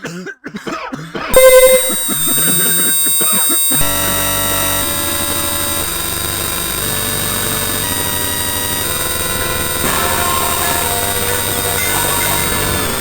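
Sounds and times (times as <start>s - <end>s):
fast low pulsing: 1.4s - 13.0s
harsh distorted electronic buzzing: 1.4s - 13.0s.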